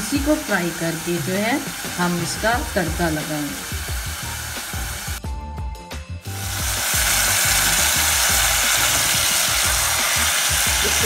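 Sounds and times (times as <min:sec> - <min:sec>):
vegetables sizzling in a pot: 0:00.0 - 0:05.2, 0:06.2 - 0:11.0.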